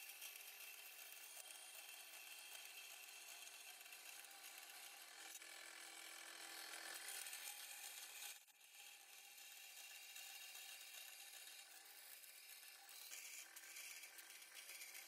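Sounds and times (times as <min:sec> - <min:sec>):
bandsaw cutting sheet steel: 0:02.4 - 0:15.0.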